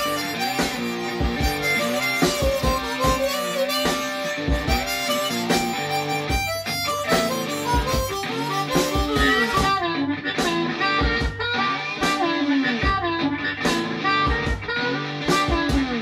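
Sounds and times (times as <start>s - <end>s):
blues harmonica: 0.0s - 16.0s
electric guitar bending notes: 0.0s - 16.0s
steady beat: 0.0s - 16.0s.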